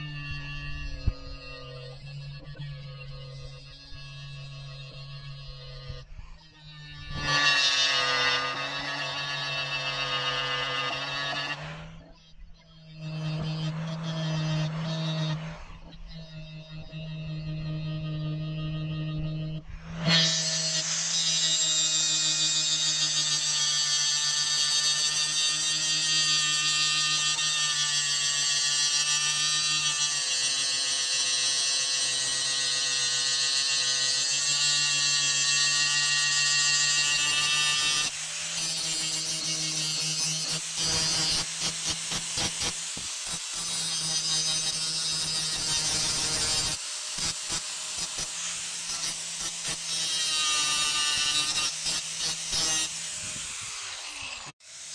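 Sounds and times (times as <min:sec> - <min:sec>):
angle grinder grinding steel: 0:00.0 - 0:54.9.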